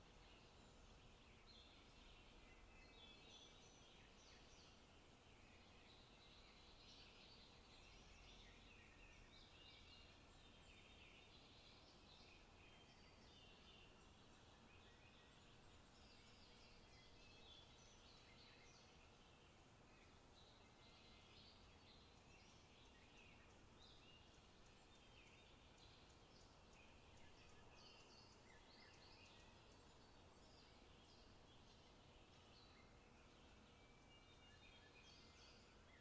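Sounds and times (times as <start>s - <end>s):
small birds singing: 0.0s - 36.0s.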